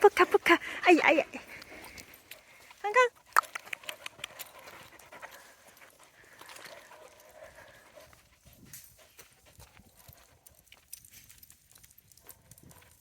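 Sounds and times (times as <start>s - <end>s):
footsteps crunching on trail: 0.0s - 13.0s
small scattered clicks: 1.4s - 13.0s.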